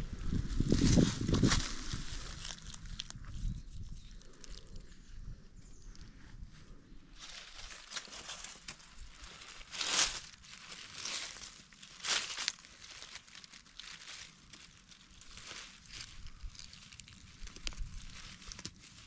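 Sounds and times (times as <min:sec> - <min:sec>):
dry leaves crackling and rustling: 0:00.0 - 0:04.8, 0:07.1 - 0:19.0.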